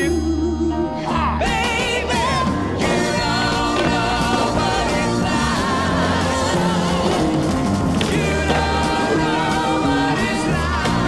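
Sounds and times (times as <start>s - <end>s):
sustained bass notes: 0.0s - 11.0s.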